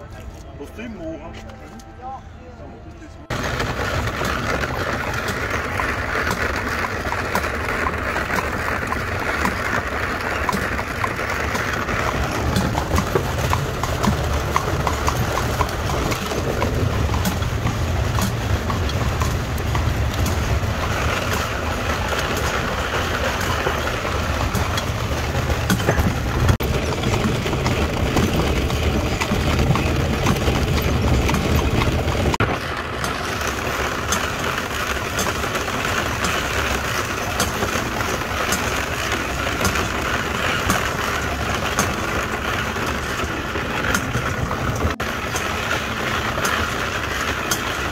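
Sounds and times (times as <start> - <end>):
hooves clip-clopping on pavement: 0.0 - 1.9, 3.2 - 47.9
outdoor rushing noise: 0.0 - 47.9
wagon wheels rumbling: 0.0 - 47.9.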